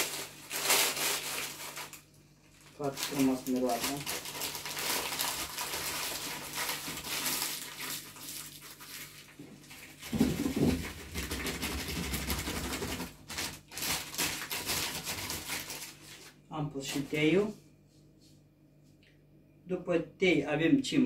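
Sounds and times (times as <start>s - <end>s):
paper bag rustling and crinkling: 0.0s - 17.2s.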